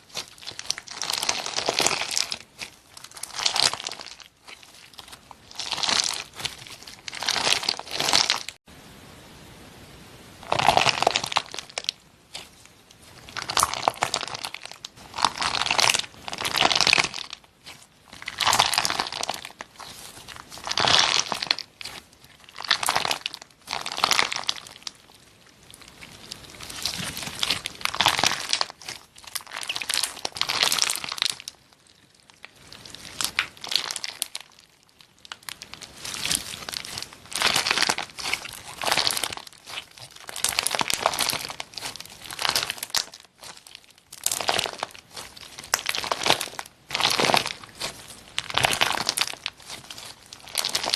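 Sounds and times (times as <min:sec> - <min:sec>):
slime crackling when squeezed: 0:00.0 - 0:08.6, 0:10.4 - 0:50.9.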